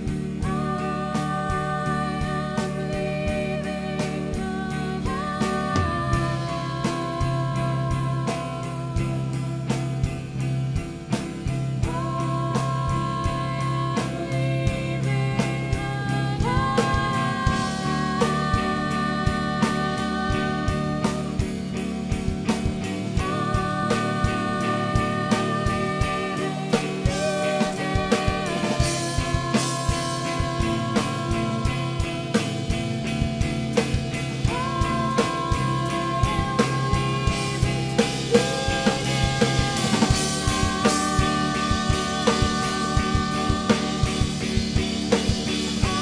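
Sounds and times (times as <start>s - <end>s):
drum kit beat: 0.0s - 46.0s
live rock band playing: 0.0s - 46.0s.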